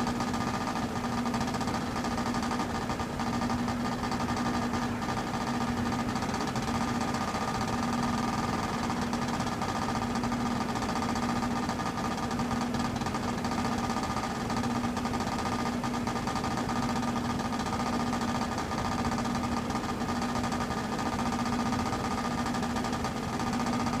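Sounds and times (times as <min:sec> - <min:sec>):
heat pump humming: 0:00.0 - 0:24.0
fast mechanical rattle: 0:00.2 - 0:24.0.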